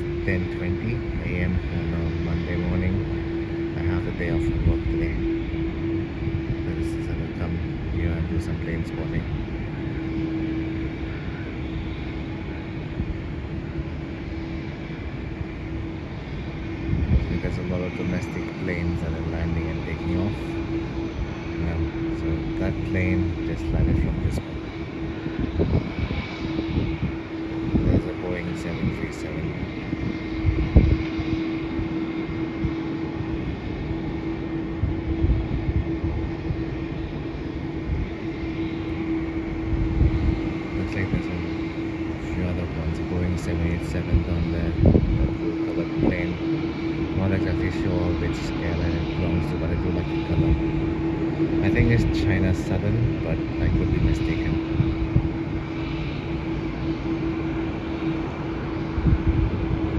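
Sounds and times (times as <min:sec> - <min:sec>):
constant low hum: 0:00.0 - 0:59.9
distant jet airliner landing: 0:00.0 - 0:59.9
wind on microphone: 0:00.0 - 0:59.9.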